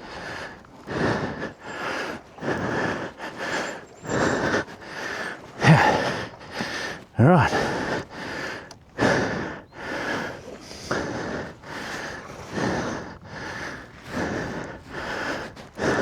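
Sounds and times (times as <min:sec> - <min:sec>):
rider panting: 0:00.0 - 0:16.0.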